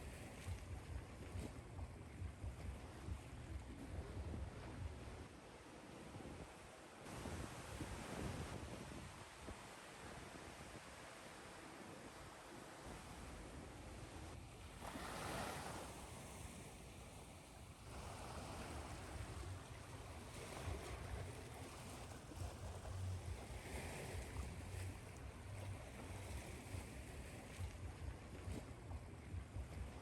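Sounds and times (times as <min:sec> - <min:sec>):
ocean waves washing in: 0:00.0 - 0:30.0.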